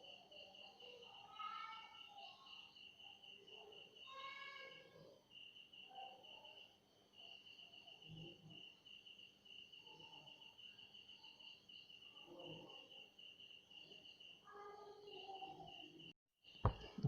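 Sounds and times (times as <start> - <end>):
faint cricket chirping: 0.0 - 17.0.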